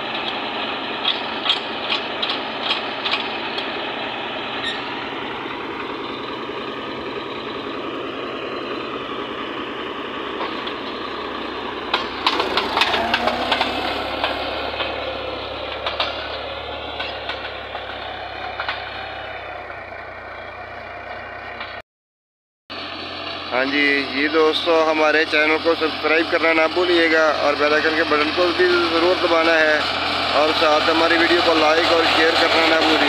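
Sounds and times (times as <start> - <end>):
tractor diesel engine running: 0.0 - 21.8, 22.7 - 33.0.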